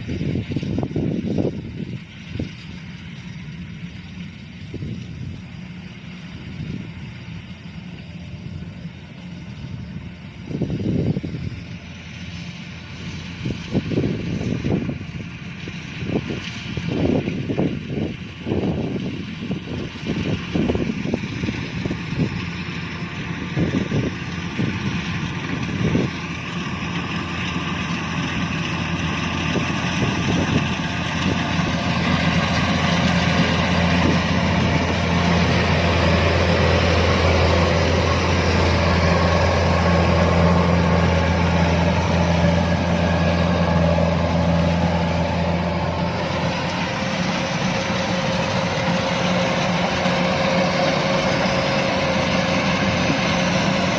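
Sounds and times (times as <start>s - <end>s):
diesel engine hum: 0.0s - 53.9s
threshing machinery: 0.0s - 53.9s.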